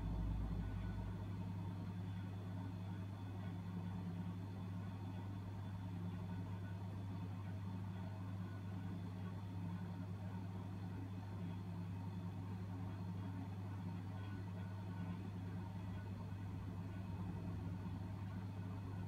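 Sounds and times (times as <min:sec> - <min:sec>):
refrigeration unit humming: 0:00.0 - 0:19.0.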